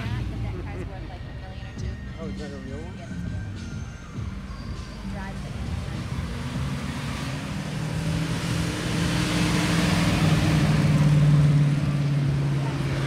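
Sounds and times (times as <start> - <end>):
car engines at low speed: 0.0 - 13.0.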